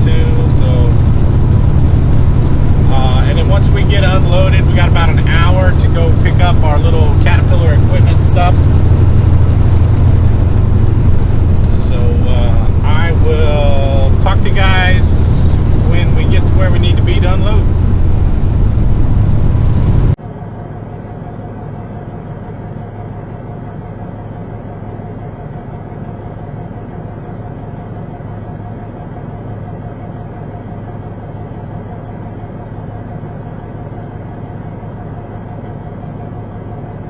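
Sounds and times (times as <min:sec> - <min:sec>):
constant low hum: 0:00.0 - 0:37.0
truck engine and road drone: 0:00.0 - 0:37.0.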